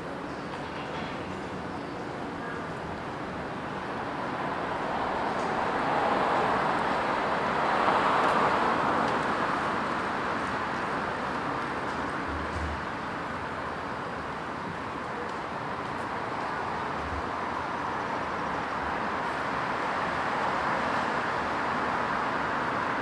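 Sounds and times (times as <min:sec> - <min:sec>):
distant traffic noise: 0:00.0 - 0:23.0.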